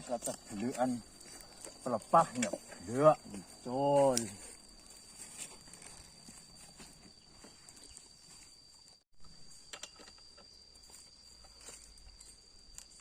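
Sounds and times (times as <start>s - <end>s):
high-pitched cricket tone: 0.0s - 13.0s
hiss of insect noise: 0.0s - 13.0s.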